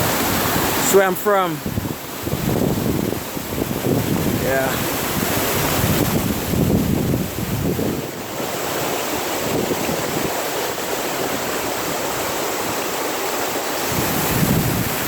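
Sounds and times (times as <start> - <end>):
waterfalls rushing into pools: 0.0 - 15.0
wind buffeting microphone: 1.6 - 15.0.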